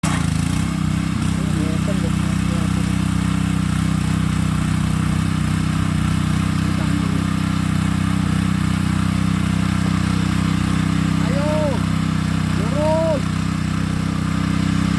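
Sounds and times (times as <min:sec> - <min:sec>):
small tiller engine running: 0:00.0 - 0:14.9.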